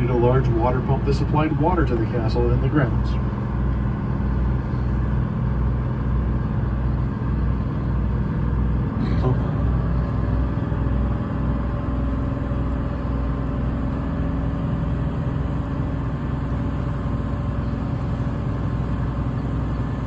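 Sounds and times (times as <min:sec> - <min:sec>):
boat engine drone: 0:00.0 - 0:20.0.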